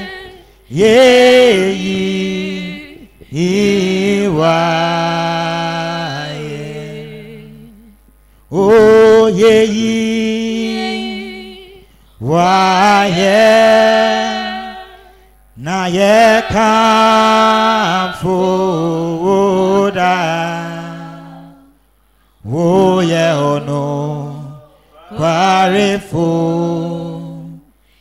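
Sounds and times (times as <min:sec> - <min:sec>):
person singing unaccompanied: 0:00.0 - 0:21.8, 0:22.4 - 0:27.7.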